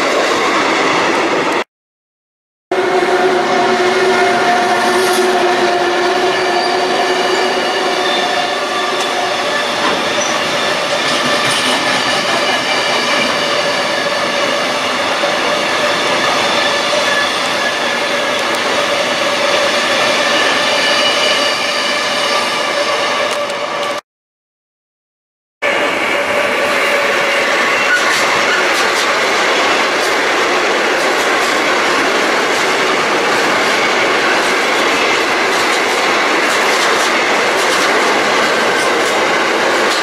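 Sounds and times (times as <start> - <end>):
train wheels rumbling on rails: 2.8 - 21.4, 25.7 - 40.0.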